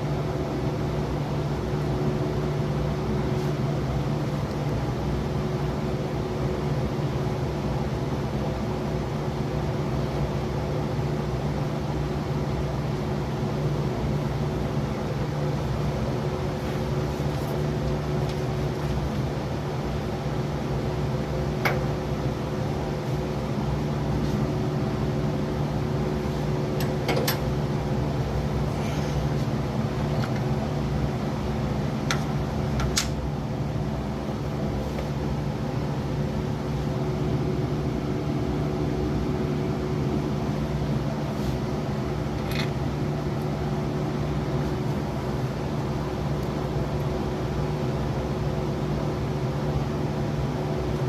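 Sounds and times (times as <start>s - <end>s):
mechanical motor hum: 0.0s - 51.0s.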